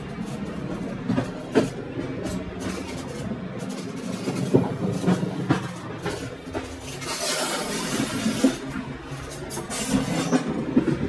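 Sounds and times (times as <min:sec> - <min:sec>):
train rolling rumble: 0:00.0 - 0:11.0
train wheels clicking over joints: 0:00.0 - 0:11.0.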